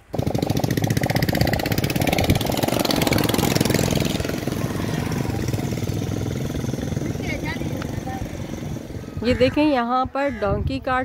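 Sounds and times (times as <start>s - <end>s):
small motorcycle engine running: 0.1s - 9.5s.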